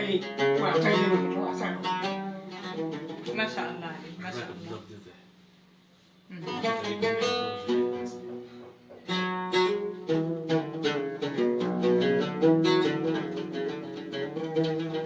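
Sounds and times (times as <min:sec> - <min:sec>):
plucked string instrument melody: 0:00.0 - 0:04.8, 0:06.4 - 0:15.0.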